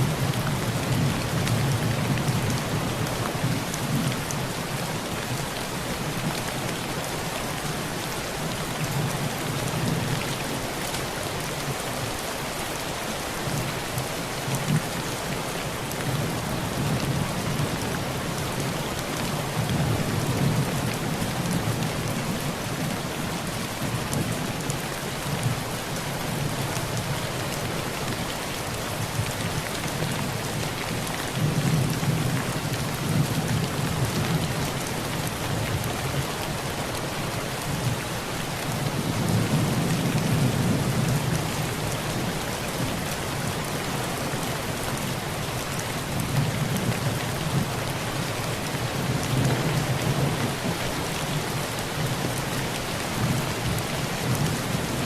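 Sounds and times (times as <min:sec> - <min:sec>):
heavy rain on a tin roof: 0:00.0 - 0:55.0.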